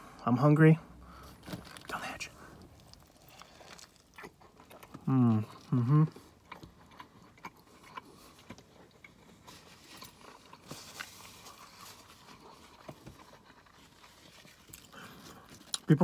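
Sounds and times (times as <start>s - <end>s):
person chewing crispy food: 1.1s - 16.0s.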